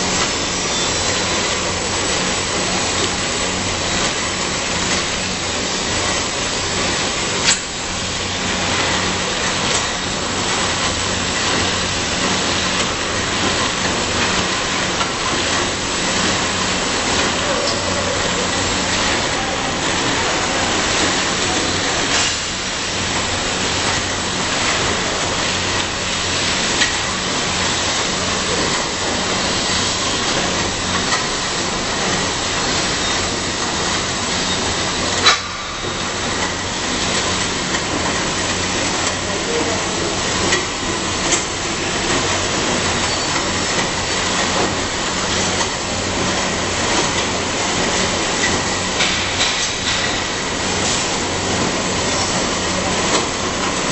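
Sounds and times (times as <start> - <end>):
conveyor rushing noise: 0.0 - 53.9.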